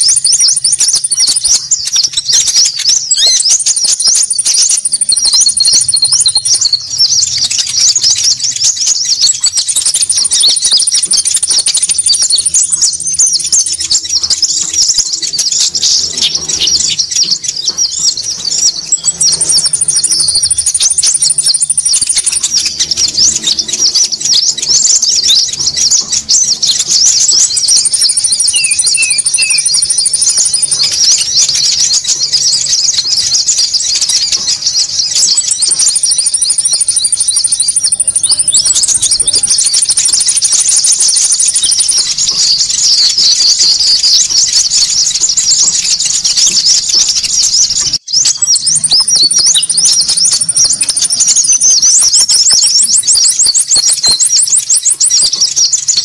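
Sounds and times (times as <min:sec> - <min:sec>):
high-pitched bird chirps: 0:00.0 - 0:56.0.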